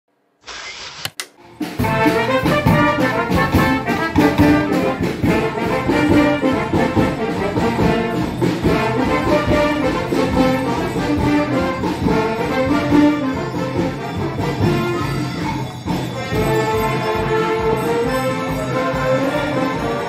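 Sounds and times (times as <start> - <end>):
brass band music: 1.6 - 15.5, 16.1 - 20.0.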